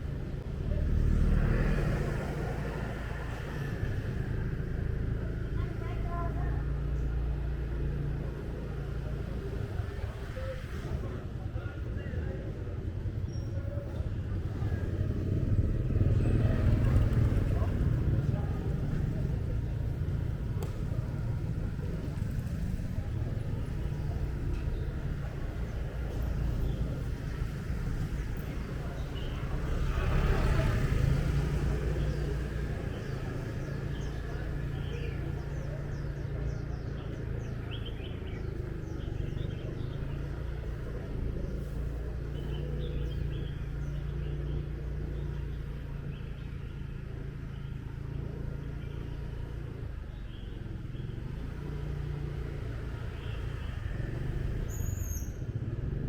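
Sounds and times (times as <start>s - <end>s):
motorbike engine and road rumble: 0.0s - 56.0s.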